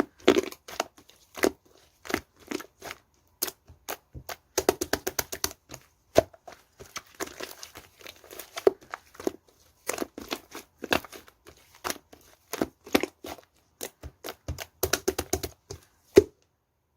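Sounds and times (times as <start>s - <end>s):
slime squished by hand: 0.0s - 16.4s.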